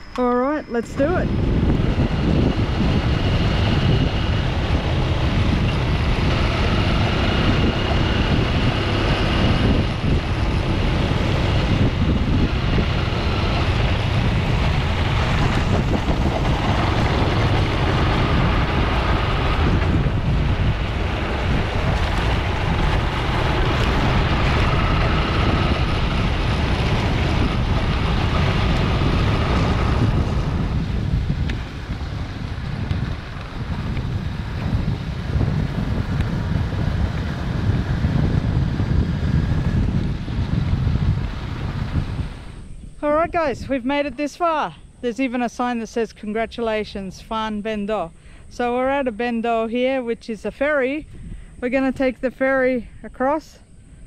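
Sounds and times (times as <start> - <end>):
dirt bike engine running: 0.0 - 44.6
wind buffeting microphone: 0.0 - 54.0.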